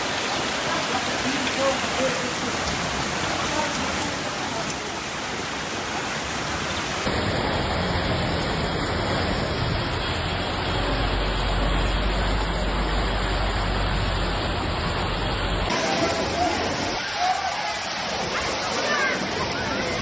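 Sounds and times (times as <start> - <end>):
rushing storm water: 0.0 - 20.0.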